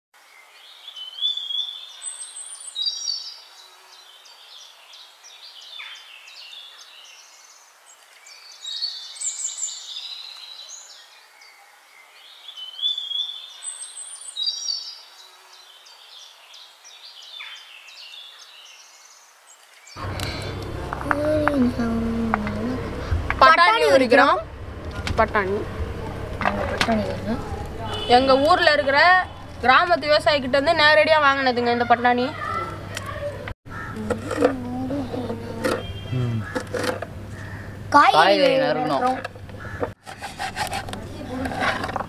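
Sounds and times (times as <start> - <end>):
birds chirping: 0.2 - 40.0.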